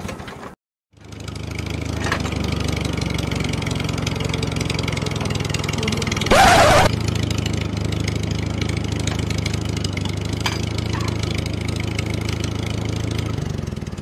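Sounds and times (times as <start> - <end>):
engine idling with chugging: 1.0 - 6.3, 7.0 - 14.0.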